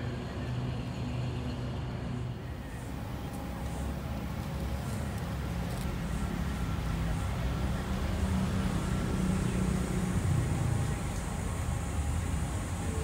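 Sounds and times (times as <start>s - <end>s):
diesel engines idling: 0.0s - 13.0s
faint voices: 0.0s - 13.0s.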